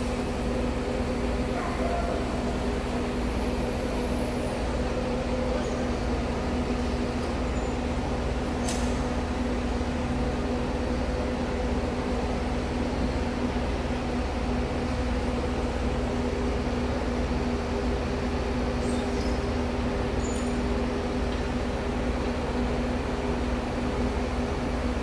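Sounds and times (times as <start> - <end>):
buses idling: 0.0 - 25.0.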